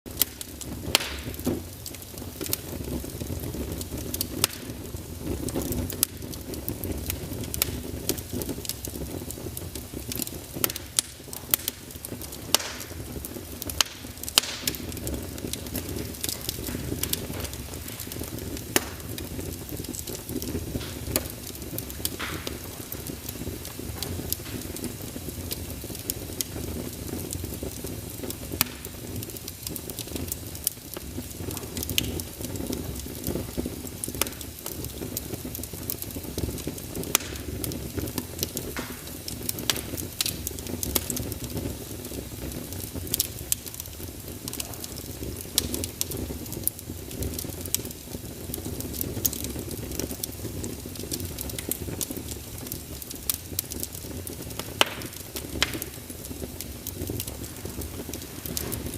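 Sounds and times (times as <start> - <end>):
fire rushing: 0.1 - 58.9
logs crackling and popping: 0.1 - 58.9.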